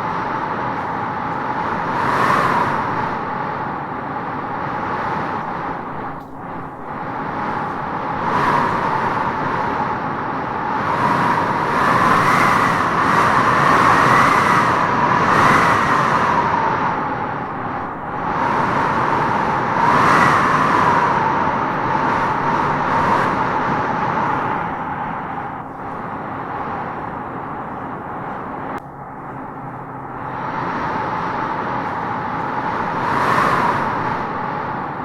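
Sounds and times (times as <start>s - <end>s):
wind howling in gusts: 0.0s - 35.0s.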